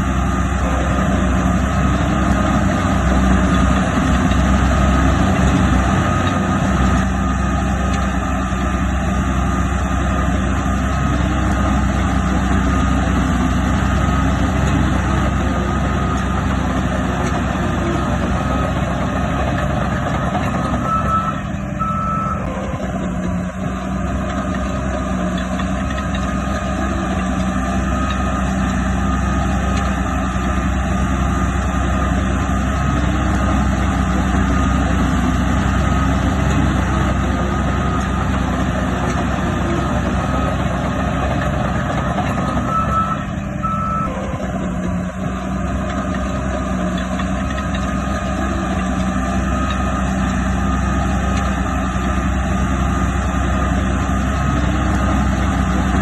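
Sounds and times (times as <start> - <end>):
heavy diesel machinery running: 0.0 - 56.0
reversing alarm beeping: 0.2 - 10.2, 10.8 - 24.0, 26.3 - 32.2, 32.8 - 45.5, 48.0 - 56.0.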